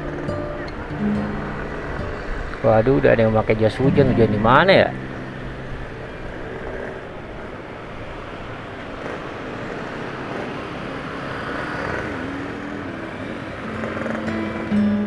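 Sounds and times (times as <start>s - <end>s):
road and traffic noise: 0.0s - 15.0s
vehicle engine hum: 0.0s - 15.0s.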